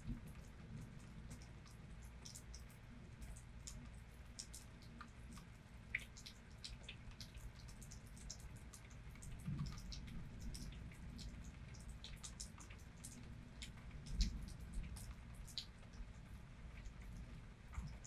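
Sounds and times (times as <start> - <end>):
low steady rumble: 0.0 - 18.0
rain drops ticking: 0.0 - 18.0.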